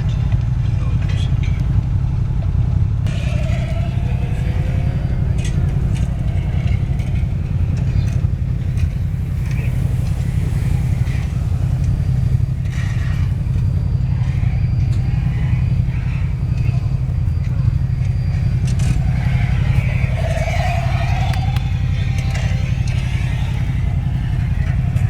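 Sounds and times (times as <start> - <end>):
faint voices: 0.0 - 25.0
low engine-like drone: 0.0 - 25.0.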